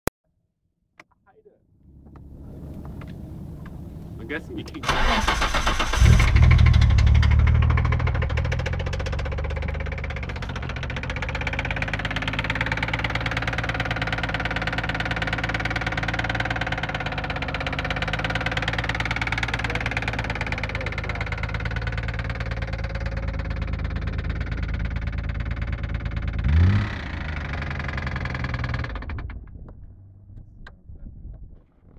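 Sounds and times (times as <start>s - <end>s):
car engine idling with knock: 1.9s - 30.5s
engine revving: 2.2s - 29.4s.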